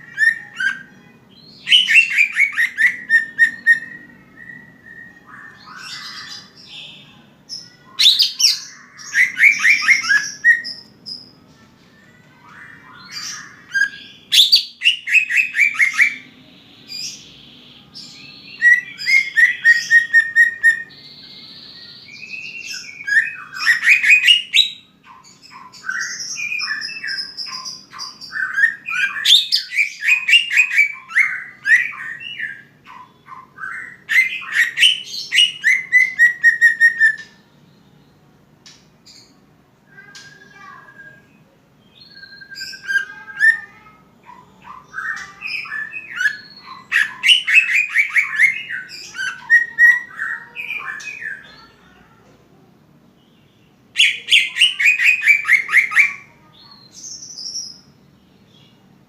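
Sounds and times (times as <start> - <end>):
bird singing trills and whistles: 0.0 - 11.4, 12.2 - 38.2, 40.0 - 51.8, 53.3 - 58.8.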